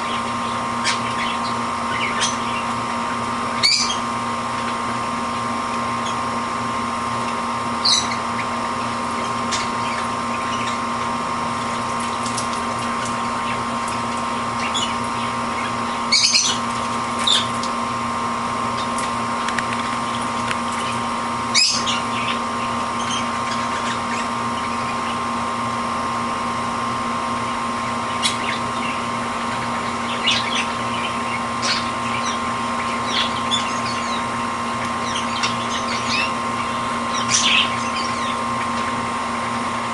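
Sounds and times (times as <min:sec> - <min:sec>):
hum with a whine: 0:00.0 - 0:39.9.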